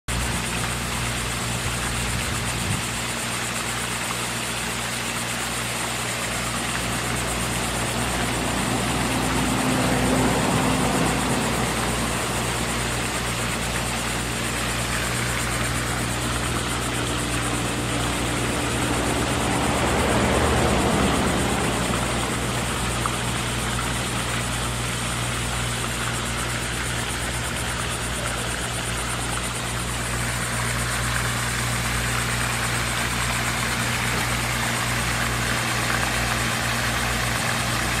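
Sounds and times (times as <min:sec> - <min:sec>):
fountain water splashing: 0:00.1 - 0:38.0
low motor hum: 0:00.1 - 0:38.0.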